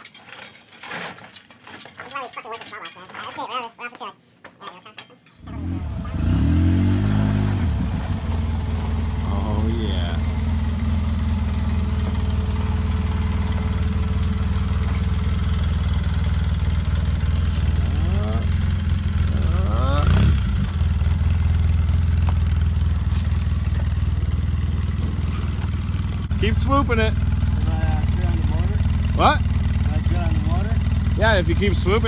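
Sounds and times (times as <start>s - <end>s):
vehicle engine idling: 5.4s - 32.0s.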